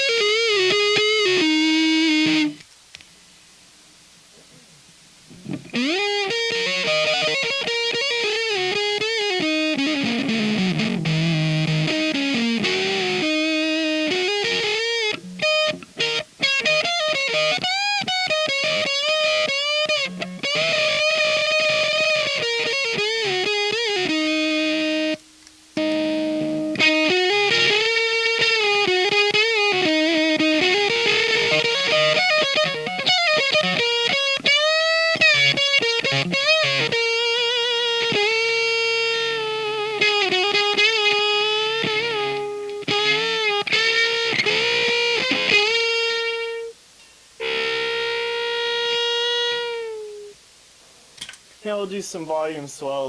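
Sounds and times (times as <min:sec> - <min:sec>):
fuzzy electric guitar lead: 0:00.0 - 0:02.7, 0:04.3 - 0:46.8, 0:47.4 - 0:50.4.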